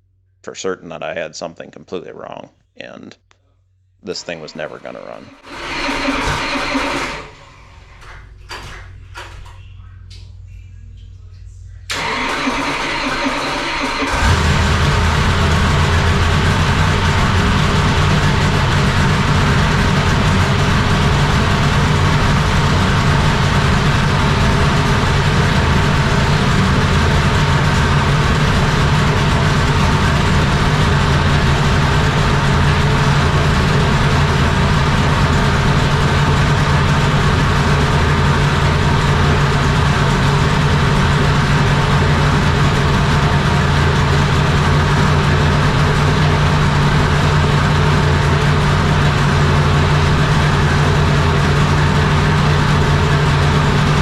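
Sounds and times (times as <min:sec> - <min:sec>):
race car engine running: 0:04.2 - 0:10.3, 0:11.3 - 0:54.0.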